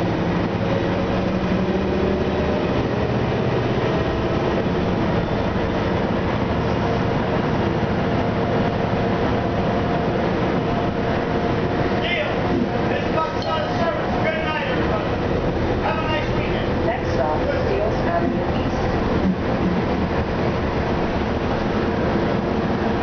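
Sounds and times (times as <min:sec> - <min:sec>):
bus diesel engine: 0:00.0 - 0:23.0
road and tyre noise: 0:00.0 - 0:23.0.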